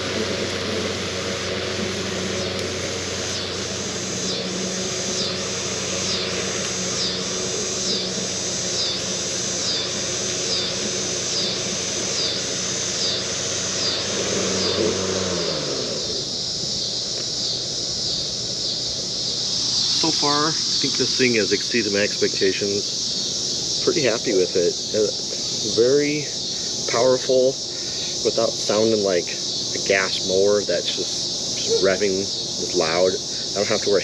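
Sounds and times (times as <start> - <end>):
cicadas singing: 0.0 - 34.0
electric lawn mower humming: 0.0 - 34.0.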